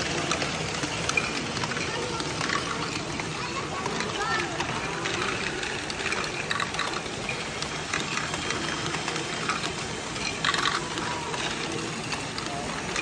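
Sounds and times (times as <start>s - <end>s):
motors and gears whirring: 0.0s - 13.0s
plastic balls clicking and rattling: 0.0s - 13.0s.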